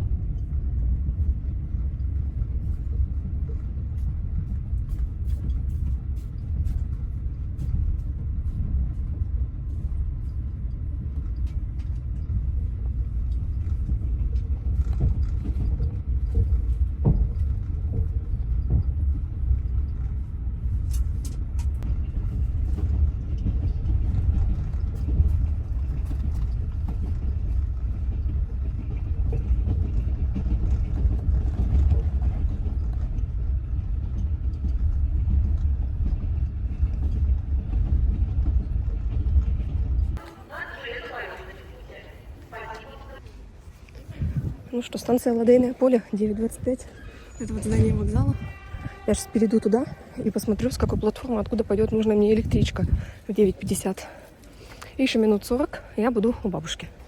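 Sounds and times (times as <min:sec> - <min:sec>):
train carriage rumbling: 0:00.0 - 0:57.0.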